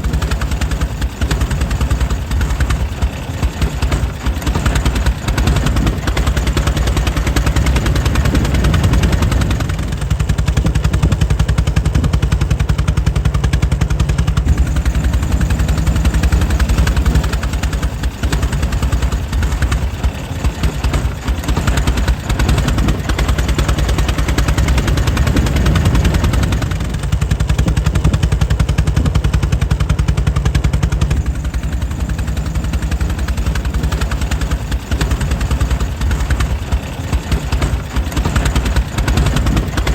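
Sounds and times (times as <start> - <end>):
engine running with rhythmic firing: 0.0 - 39.9.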